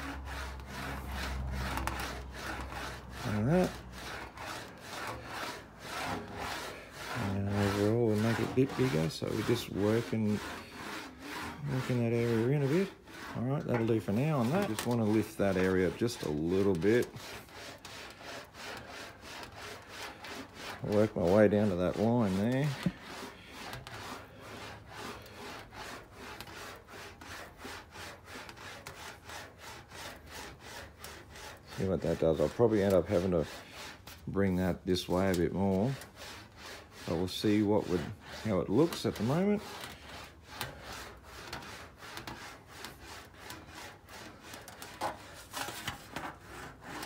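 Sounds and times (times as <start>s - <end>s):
metal sheet rasping through wheels: 0.0s - 47.0s.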